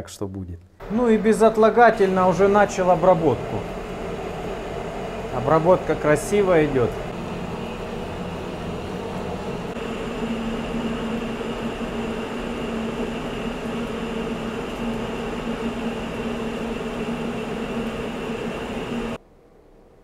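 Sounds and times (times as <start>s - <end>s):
metal lathe cutting steel: 0.8s - 19.2s.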